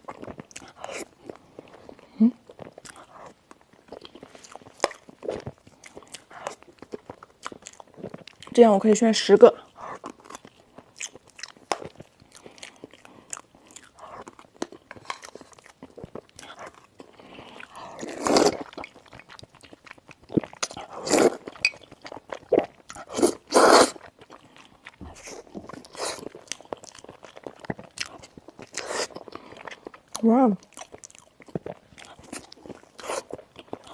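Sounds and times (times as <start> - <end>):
crunchy chewing: 0.0 - 8.6, 9.5 - 33.9.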